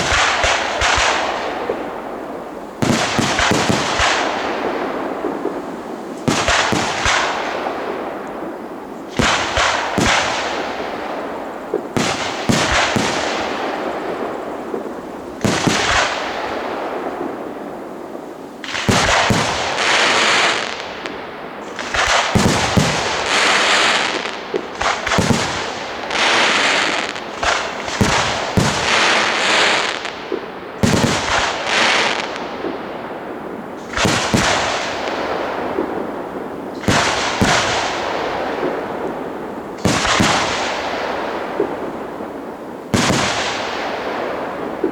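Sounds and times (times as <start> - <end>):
dense firework crackling: 0.0 - 44.9.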